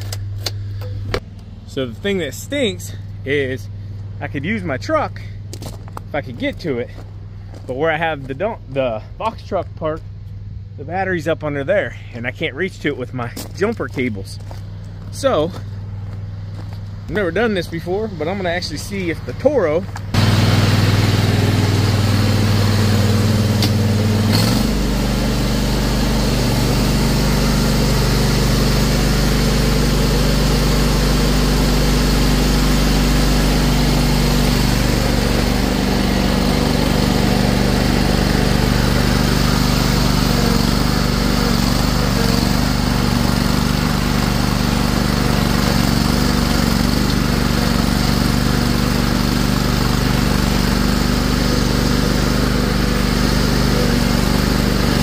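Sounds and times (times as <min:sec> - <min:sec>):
mower engine running: 0:00.0 - 0:55.0.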